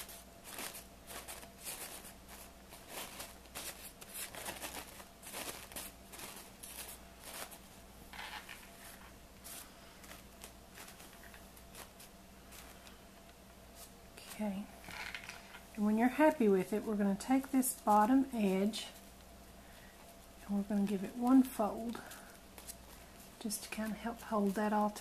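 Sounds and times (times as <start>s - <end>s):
paper napkins rustling: 0.0s - 25.0s.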